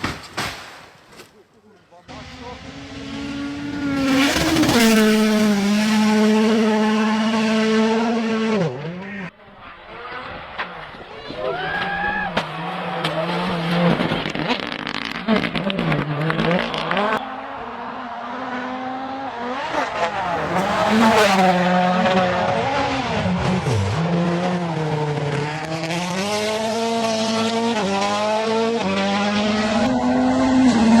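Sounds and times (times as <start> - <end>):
rally car engine revving: 2.1 - 31.0.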